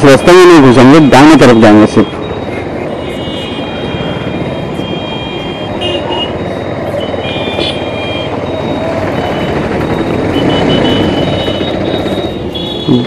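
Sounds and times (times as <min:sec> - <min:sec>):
vehicle horns beeping: 0:00.0 - 0:13.0
motorcycle engine: 0:02.0 - 0:13.0.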